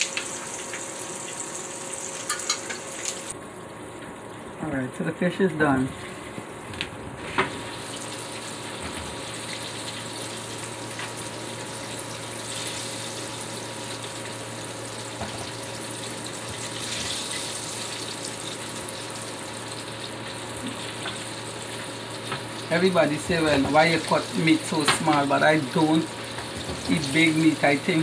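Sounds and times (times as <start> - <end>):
fish sizzling in hot oil: 0.0 - 3.3, 7.5 - 28.0.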